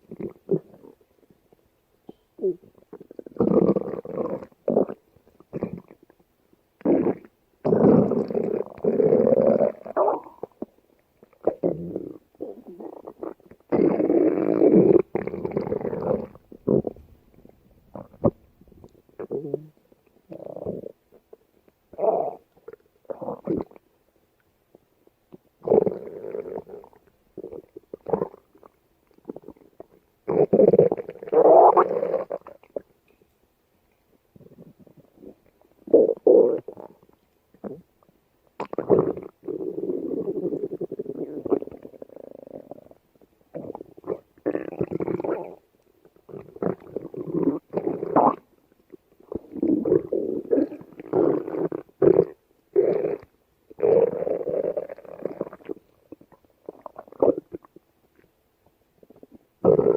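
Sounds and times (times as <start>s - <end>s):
stomach growling and gurgling: 0.0s - 1.7s, 2.4s - 6.2s, 6.8s - 23.9s, 24.7s - 32.9s, 34.3s - 59.9s.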